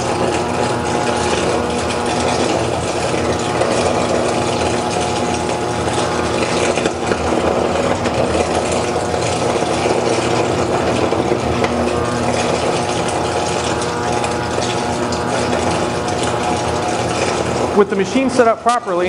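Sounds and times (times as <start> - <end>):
electric arc buzzing hum: 0.0 - 19.0.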